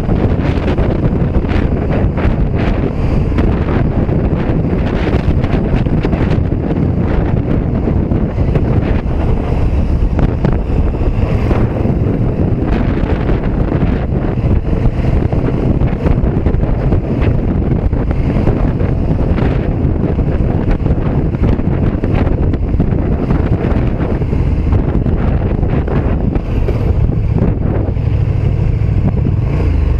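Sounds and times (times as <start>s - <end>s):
motorcycle engine running: 0.0s - 29.9s
wind buffeting microphone: 0.0s - 29.9s.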